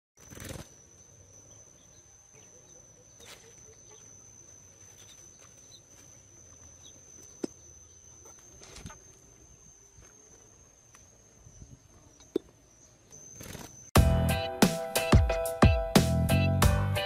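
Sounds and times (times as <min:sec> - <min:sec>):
faint chirps: 0:00.2 - 0:14.0
high-pitched insect drone: 0:00.2 - 0:17.0.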